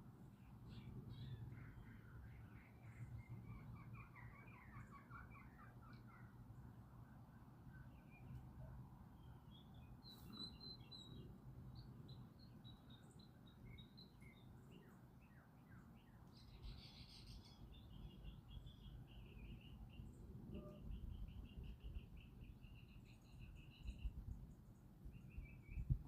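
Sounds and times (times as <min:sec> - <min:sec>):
songbirds chirping and singing: 0:00.2 - 0:26.0.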